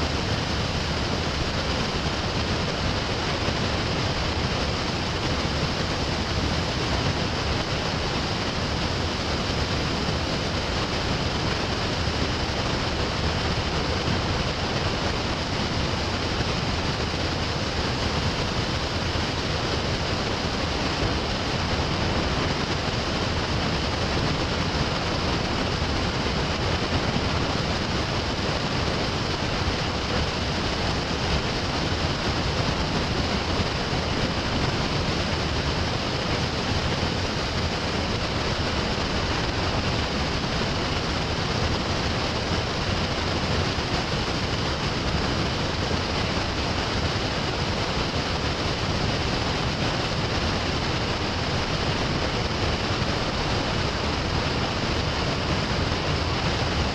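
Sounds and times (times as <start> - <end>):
wind: 0.0 - 56.9.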